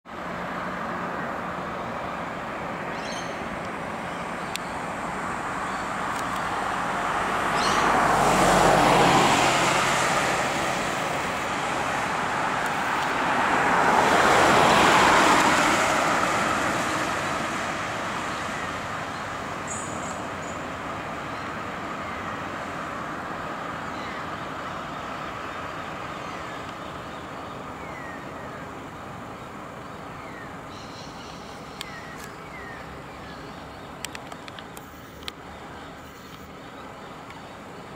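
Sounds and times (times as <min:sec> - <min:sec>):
road traffic noise: 0:00.0 - 0:37.9
vehicles passing: 0:00.1 - 0:37.9.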